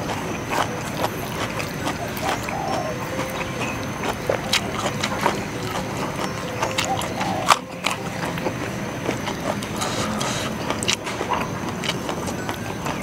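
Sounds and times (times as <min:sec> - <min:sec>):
crunching raw vegetables: 0:00.0 - 0:13.0.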